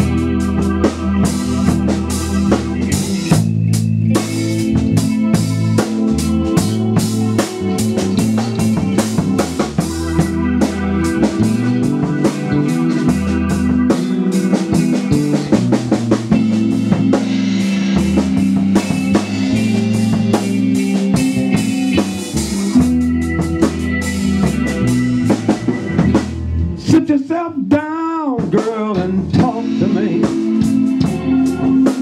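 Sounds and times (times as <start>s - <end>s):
electric guitar through amplifier: 0.0s - 27.7s, 28.4s - 32.0s
drum kit steady beat: 0.0s - 32.0s.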